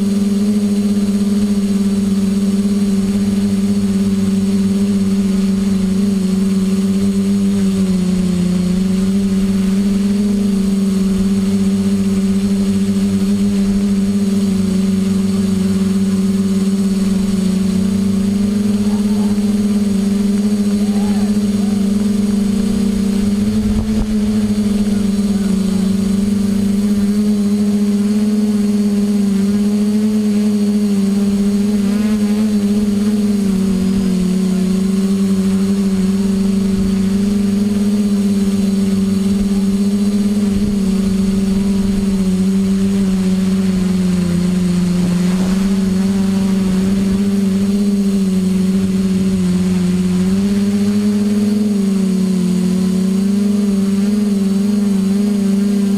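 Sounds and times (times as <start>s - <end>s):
drone propellers humming: 0.0s - 55.9s.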